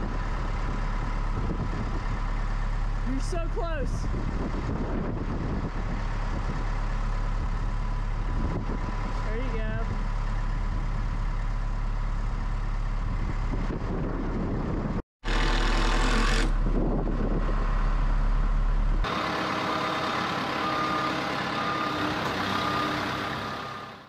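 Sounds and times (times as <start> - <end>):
telehandler engine running: 0.0 - 24.0.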